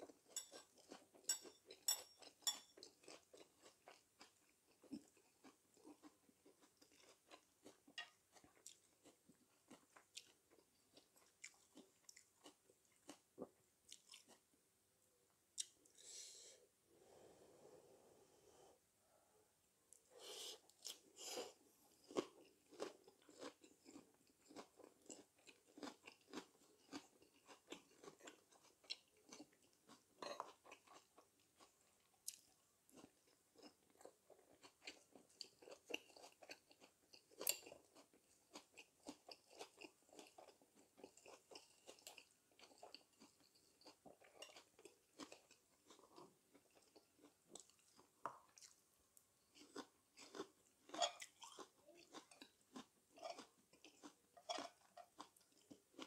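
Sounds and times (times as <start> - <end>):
chewing with crunches: 0.0 - 14.5, 20.6 - 56.0.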